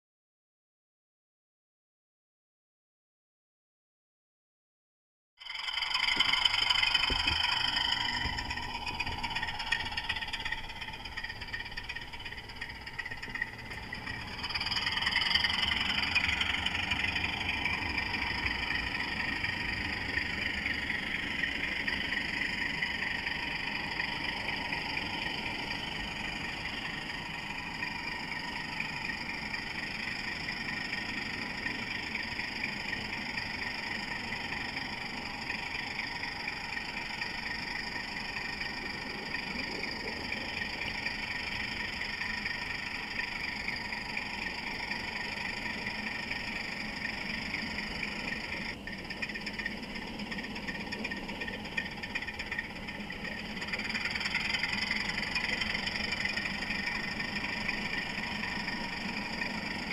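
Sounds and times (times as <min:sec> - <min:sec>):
high steady tones: 0:05.4 - 0:59.9
model locomotive running: 0:05.4 - 0:59.9.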